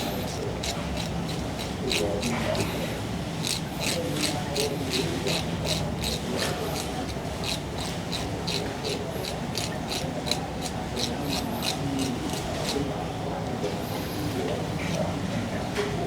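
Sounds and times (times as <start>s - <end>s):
grooming strokes on cat fur: 0.0s - 12.9s, 13.8s - 15.0s.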